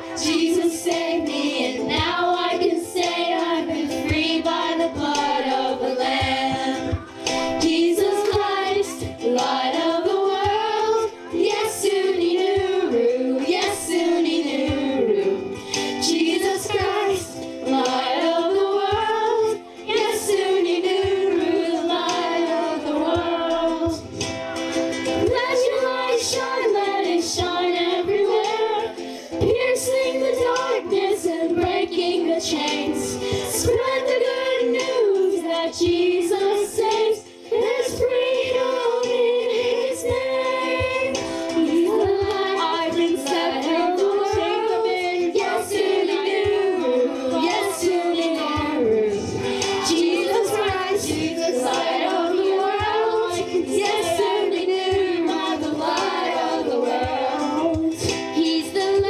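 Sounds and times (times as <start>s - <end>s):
cast singing with accompaniment: 0.0s - 59.0s.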